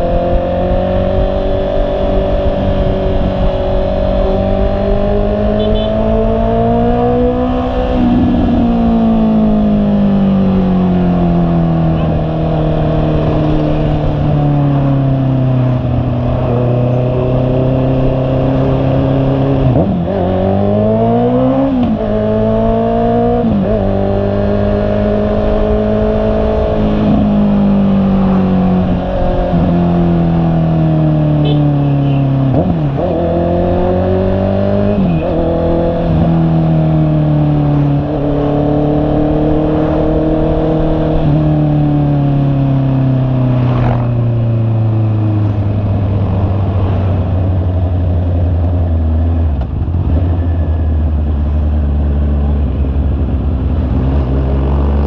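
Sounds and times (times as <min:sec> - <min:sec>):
motorcycle engine while riding: 0:00.0 - 0:55.0.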